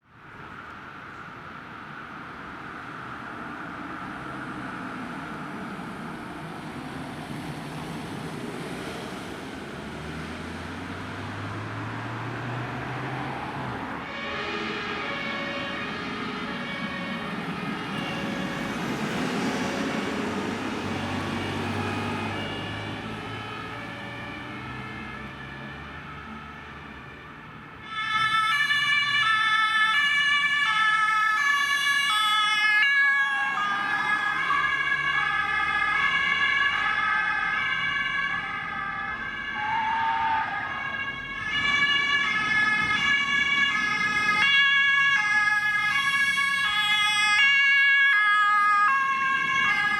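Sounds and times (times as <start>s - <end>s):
two-tone emergency sirens: 2.2s - 49.9s.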